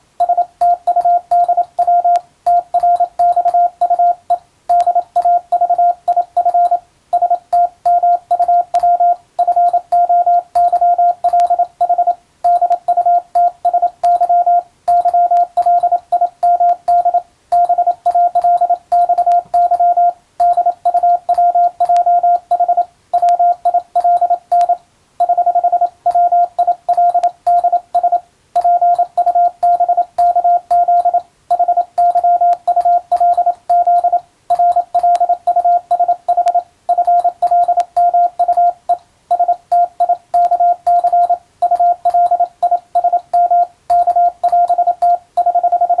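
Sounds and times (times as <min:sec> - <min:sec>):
morse code tone: 0:00.2 - 0:46.0.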